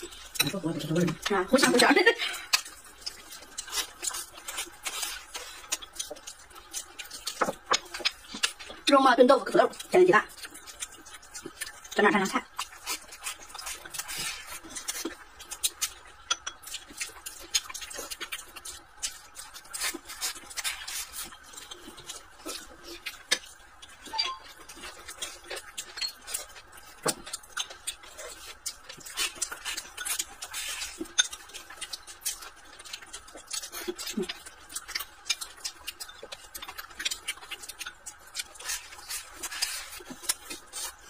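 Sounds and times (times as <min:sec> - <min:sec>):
chewing and mouth noises: 0:00.0 - 0:41.0.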